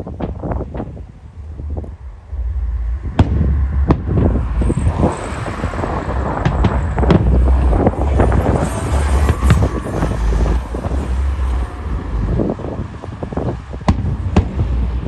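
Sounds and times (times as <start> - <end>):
firework bangs: 0.0 - 15.0
low rumble: 0.0 - 15.0.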